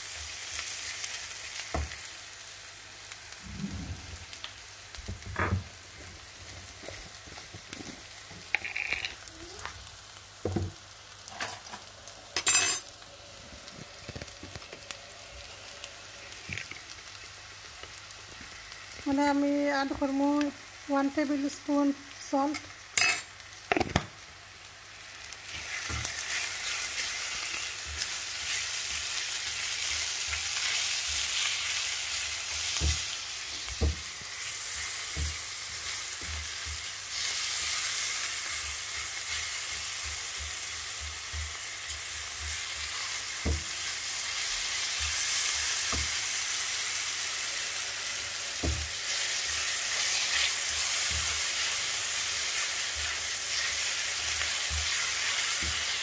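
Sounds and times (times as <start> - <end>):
onions sizzling in a pan: 0.0 - 56.0.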